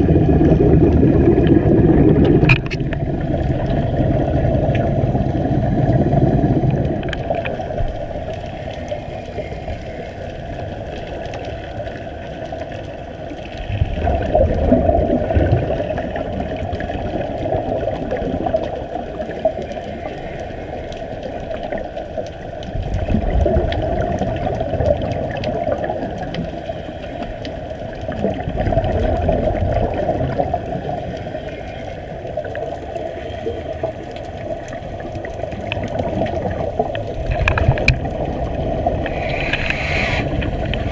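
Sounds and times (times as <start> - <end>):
underwater rushing and bubbling: 0.0 - 40.9.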